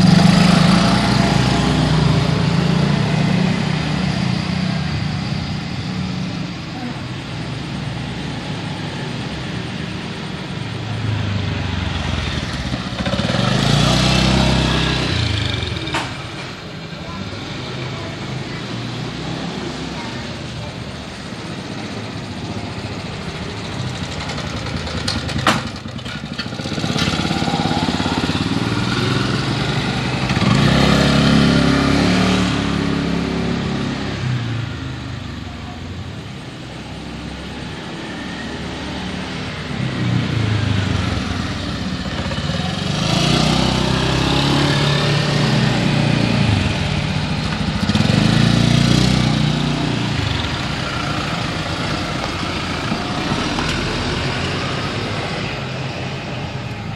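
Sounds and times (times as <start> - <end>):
cars passing: 0.0 - 56.9
motorcycles passing: 0.0 - 56.9.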